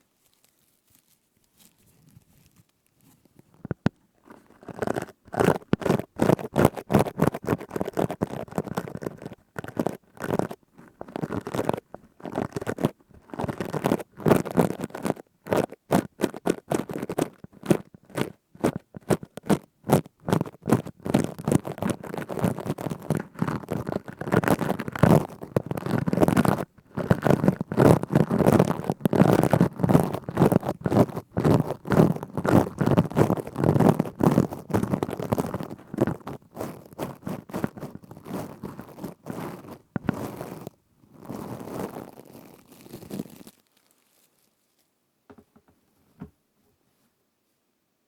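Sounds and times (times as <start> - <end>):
plastic scourer scratching: 1.6 - 43.6.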